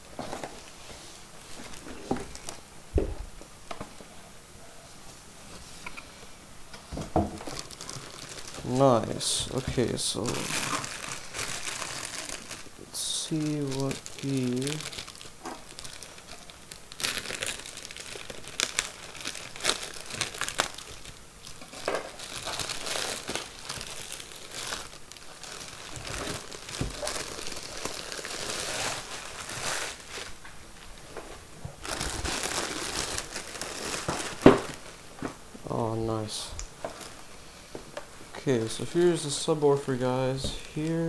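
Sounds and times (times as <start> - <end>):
plastic bag and foam crinkling: 7.0 - 37.4, 38.5 - 41.0.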